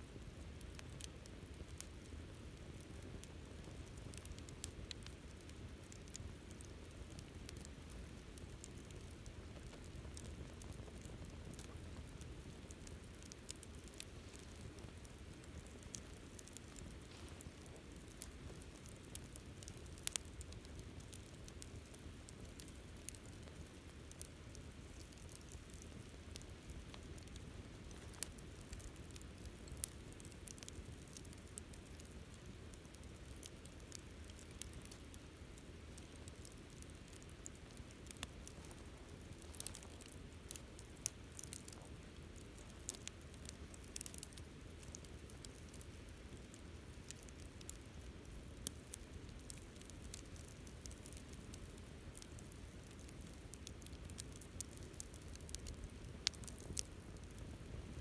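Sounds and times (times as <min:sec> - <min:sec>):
campfire rumble: 0:00.0 - 0:58.0
fire crackling and popping: 0:00.0 - 0:58.0.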